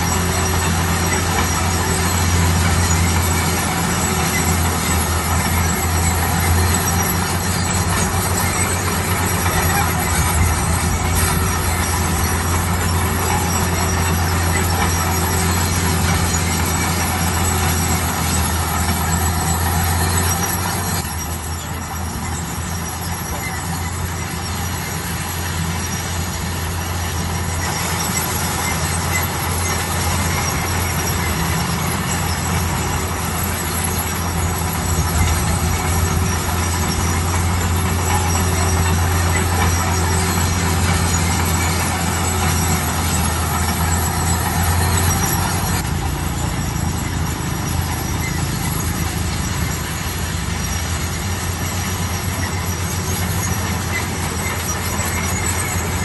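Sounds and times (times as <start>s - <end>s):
bulldozer diesel engine humming: 0.0s - 56.0s
steel tracks squealing and rattling: 0.0s - 56.0s.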